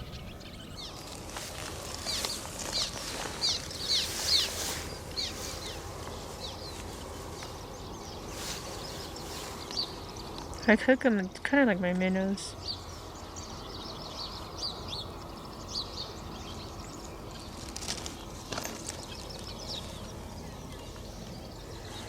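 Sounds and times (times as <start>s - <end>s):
bird chirping: 0.0s - 22.0s
low outdoor background: 0.0s - 22.0s.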